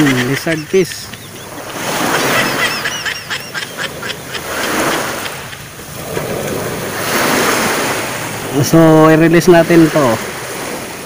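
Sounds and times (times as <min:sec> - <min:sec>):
small waves washing: 0:00.0 - 0:11.0.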